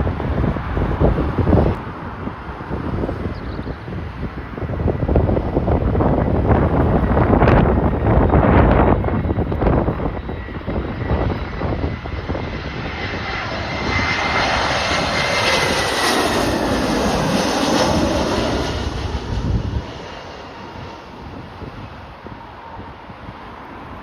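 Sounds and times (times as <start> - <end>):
jet airliner passing overhead: 0.0 - 24.0
wind buffeting microphone: 0.0 - 24.0.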